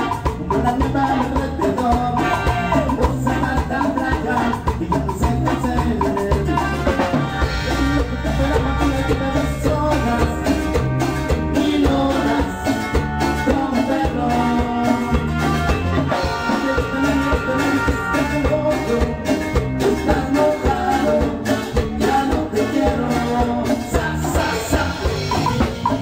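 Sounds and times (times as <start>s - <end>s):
latin dance-band music: 0.0s - 26.0s.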